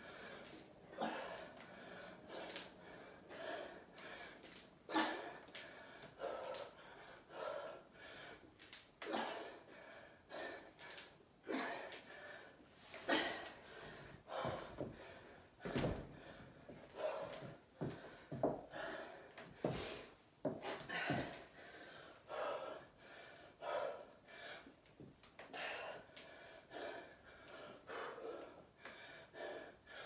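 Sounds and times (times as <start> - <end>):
woman breathing hard: 0.0 - 30.0.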